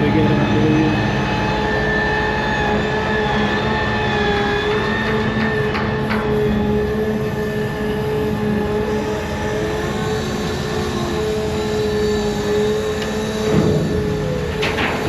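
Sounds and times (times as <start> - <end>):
diesel engine rumble: 0.0 - 15.0
high whine: 0.0 - 15.0.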